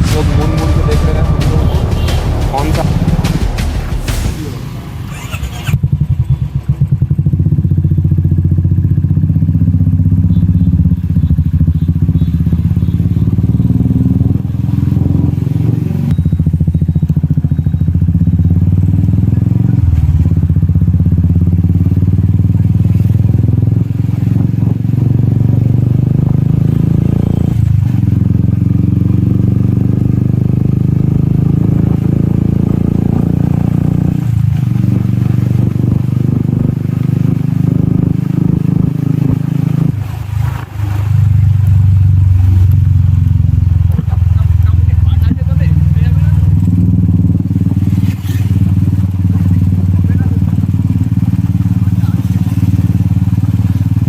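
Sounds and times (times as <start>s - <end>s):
motorcycle engine through loud exhaust: 0.0s - 54.0s.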